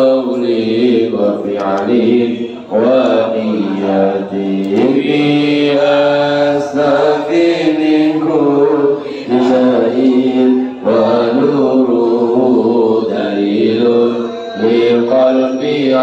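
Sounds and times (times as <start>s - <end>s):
man chanting a prayer: 0.0s - 16.0s.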